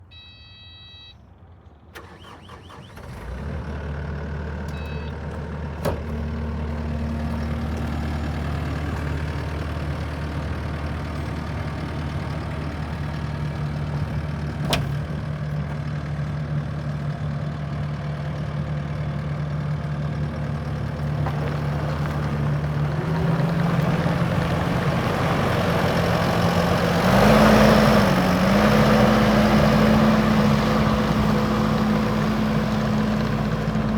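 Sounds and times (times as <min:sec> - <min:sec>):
diesel engine cranking and idling: 0:01.3 - 0:33.9.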